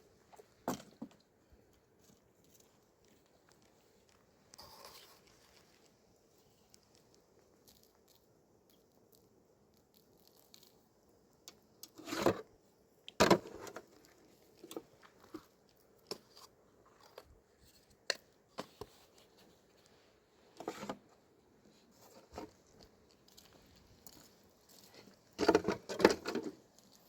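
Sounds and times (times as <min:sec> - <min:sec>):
rustling and crunching: 0:00.0 - 0:27.0.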